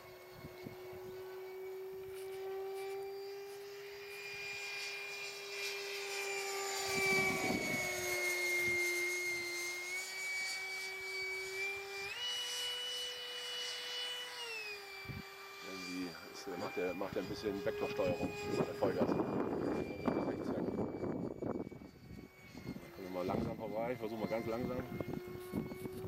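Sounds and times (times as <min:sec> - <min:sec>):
electric ducted fan whining: 0:00.0 - 0:26.0.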